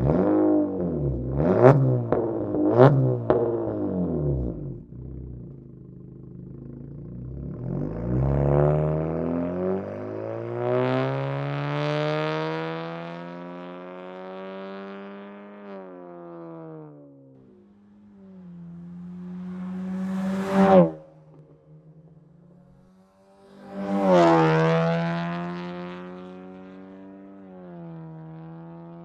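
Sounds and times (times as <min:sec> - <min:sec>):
car engine accelerating away: 0:00.0 - 0:29.0.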